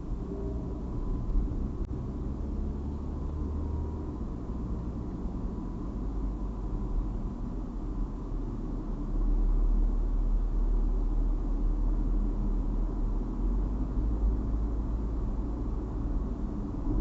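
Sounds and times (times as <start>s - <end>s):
road and engine rumble in a car: 0.0s - 17.0s.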